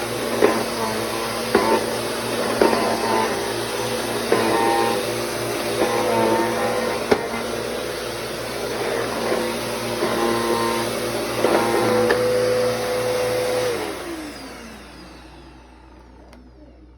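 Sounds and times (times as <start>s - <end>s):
vacuum cleaner running: 0.0s - 16.9s
vacuum motor winding down: 0.0s - 16.9s.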